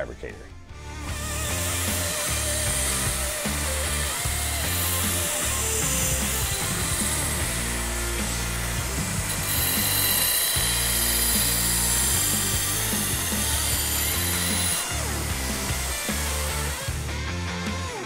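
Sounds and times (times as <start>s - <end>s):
background music with steady beat: 0.0s - 18.0s
belt grinder grinding metal: 0.8s - 18.0s.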